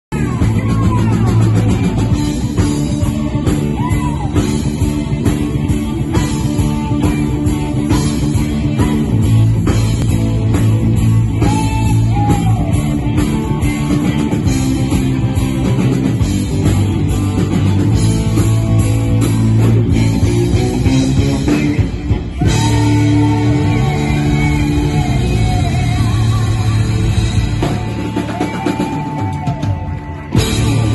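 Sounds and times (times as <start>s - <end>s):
live rock band playing: 0.1s - 30.9s.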